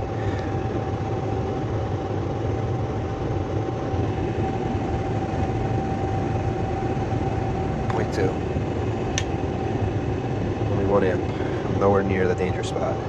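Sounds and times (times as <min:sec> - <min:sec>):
gas furnace drone: 0:00.0 - 0:13.0.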